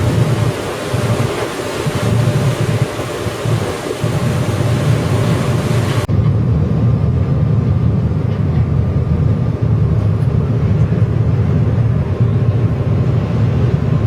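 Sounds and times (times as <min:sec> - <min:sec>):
ferry engine drone: 0:00.0 - 0:14.0
rushing wind and water: 0:00.0 - 0:14.0.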